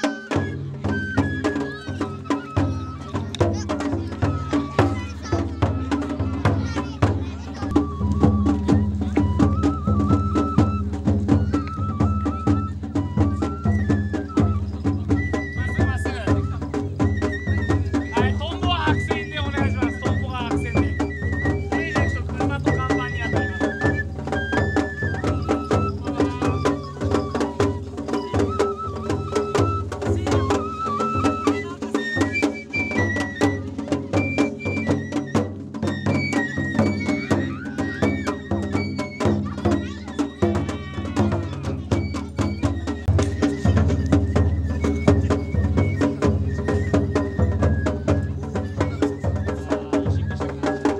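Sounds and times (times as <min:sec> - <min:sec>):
high flute melody: 0:00.0 - 0:50.9
taiko drums: 0:00.0 - 0:50.9.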